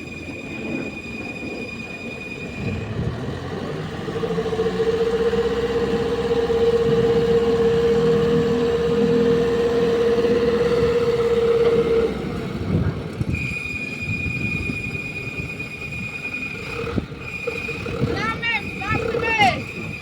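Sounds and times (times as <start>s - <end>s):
dump truck engine rumbling: 0.0s - 20.0s.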